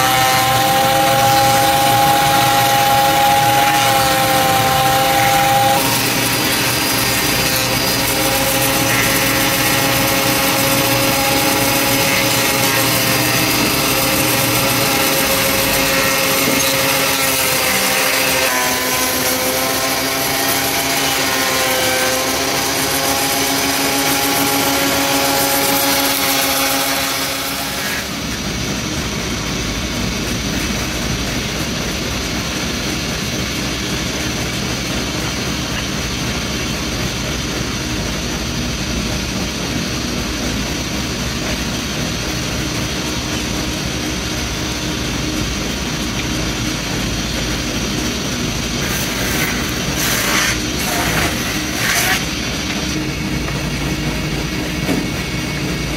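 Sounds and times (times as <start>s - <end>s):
dull machine noise: 0.0s - 55.9s
thickness planer motor whine: 0.0s - 55.9s.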